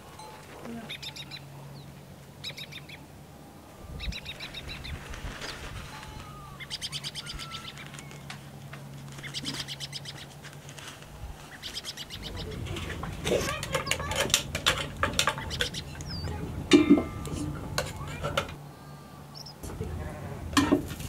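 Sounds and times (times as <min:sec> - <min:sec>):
steady low hum: 0:00.0 - 0:21.0
small birds chirping: 0:00.2 - 0:20.5.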